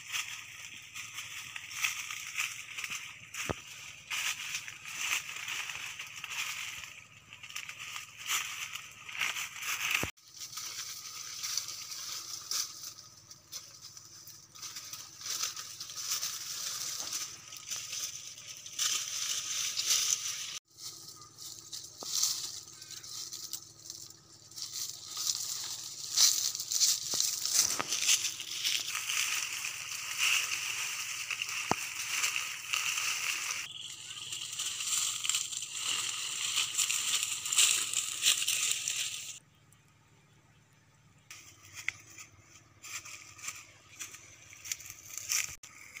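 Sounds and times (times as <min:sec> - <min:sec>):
foliage brushing: 0:00.0 - 0:39.4, 0:41.3 - 0:46.0
dry leaves crunching underfoot: 0:00.0 - 0:39.7, 0:41.1 - 0:46.0.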